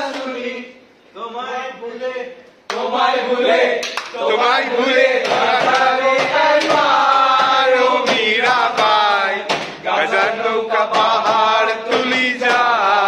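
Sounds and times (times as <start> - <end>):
men singing together unaccompanied: 0.0 - 0.8, 2.7 - 13.0.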